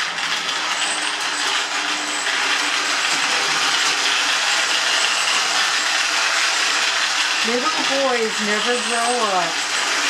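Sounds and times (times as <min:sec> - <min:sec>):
toy train motor whirring: 0:00.0 - 0:10.0.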